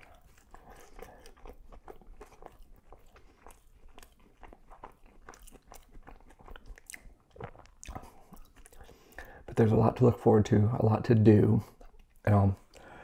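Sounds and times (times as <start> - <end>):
chewing with crunches: 0.0 - 9.5, 11.7 - 13.0.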